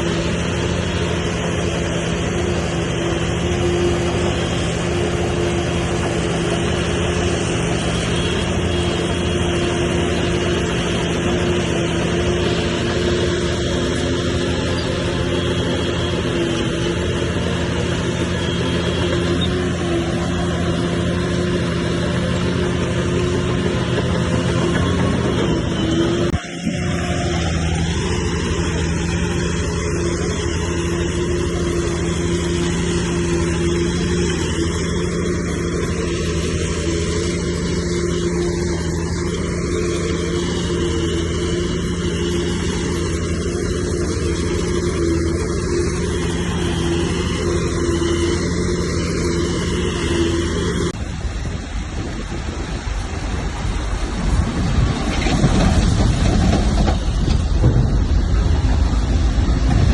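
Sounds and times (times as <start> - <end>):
heavy machinery diesel engine: 0.0 - 59.9
rough noisy rumble: 0.0 - 59.9.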